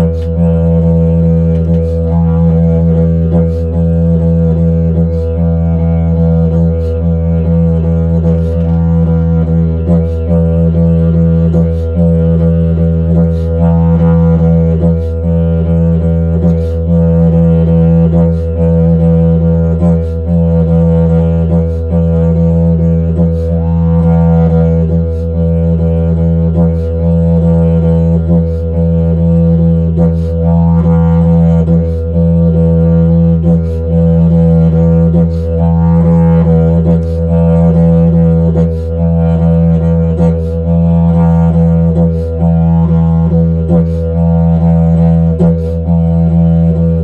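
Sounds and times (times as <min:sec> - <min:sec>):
didgeridoo low drone: 0:00.0 - 0:47.0.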